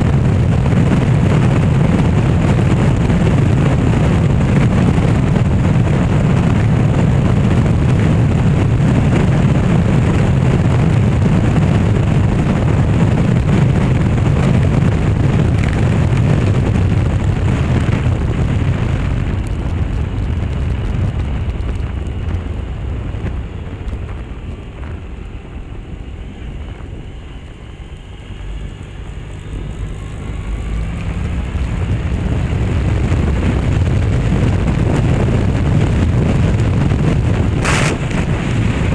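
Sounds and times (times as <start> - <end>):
motorbike engine: 0.0 - 38.9
road noise: 0.0 - 38.9
wind rushing over microphone: 0.0 - 38.9.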